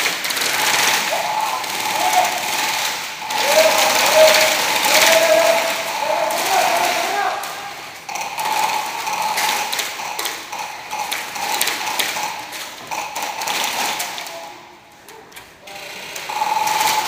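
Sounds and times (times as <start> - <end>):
airsoft guns firing bursts: 0.0 - 14.5, 15.7 - 17.0.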